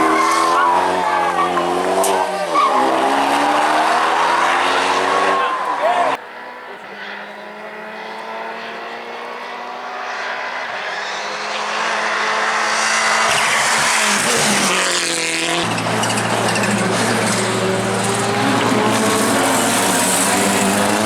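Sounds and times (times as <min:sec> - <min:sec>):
rally car engine at speed: 0:00.0 - 0:21.0.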